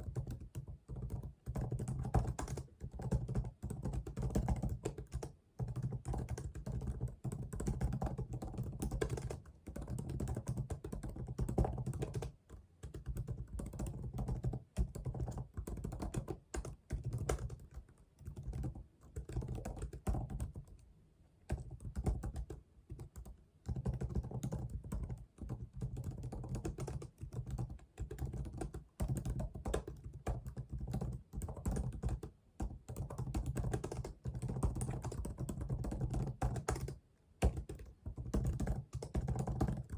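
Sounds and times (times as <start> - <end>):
keyboard typing: 0.0 - 20.8, 21.5 - 39.9.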